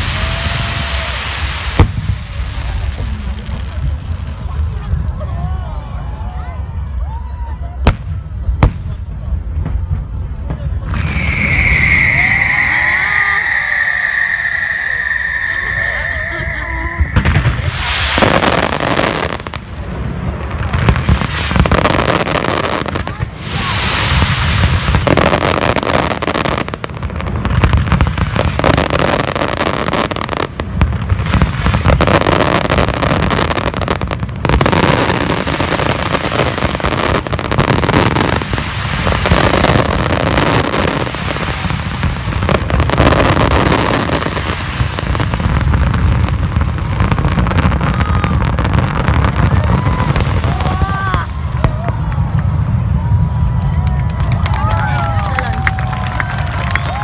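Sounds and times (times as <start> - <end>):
fireworks bursting: 0.0 - 5.3, 7.8 - 57.0.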